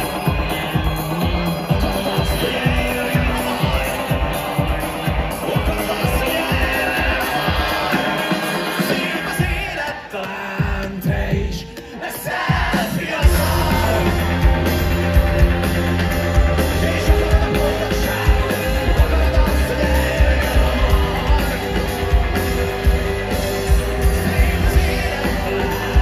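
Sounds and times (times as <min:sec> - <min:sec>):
live rock band playing: 0:00.0 - 0:11.7, 0:12.5 - 0:26.0
man singing: 0:00.0 - 0:26.0.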